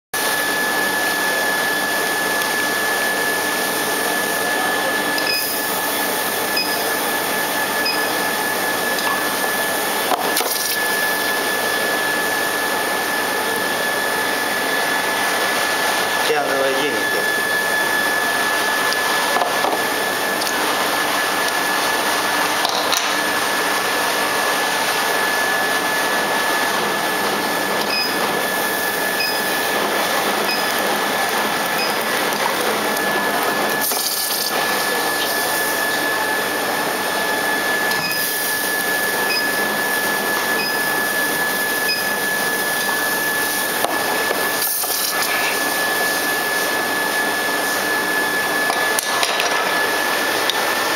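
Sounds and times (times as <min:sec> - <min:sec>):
electric equipment hissing and whining: 0:00.2 - 0:50.9.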